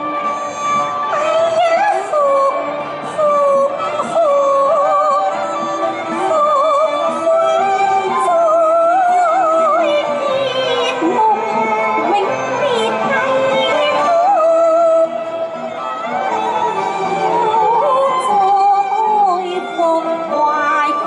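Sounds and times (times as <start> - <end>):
opera music with wavering melody: 0.0 - 21.0.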